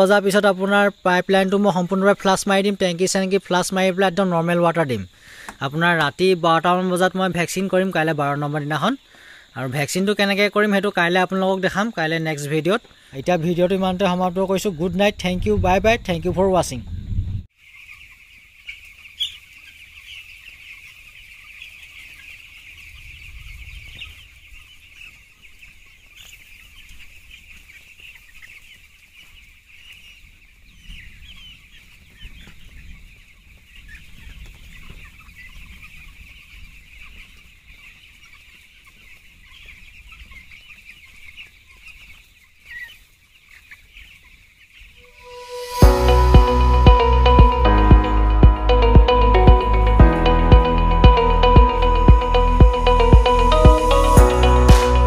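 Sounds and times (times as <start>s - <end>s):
chicks peeping: 0.0s - 55.0s.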